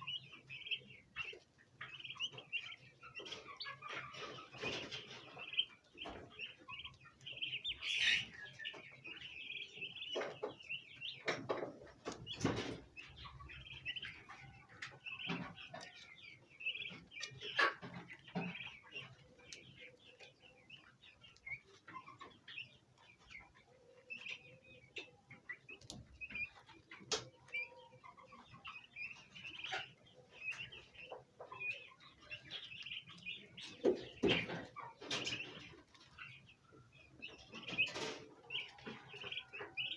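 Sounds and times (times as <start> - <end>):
turkey poults chirping: 0.0 - 39.9.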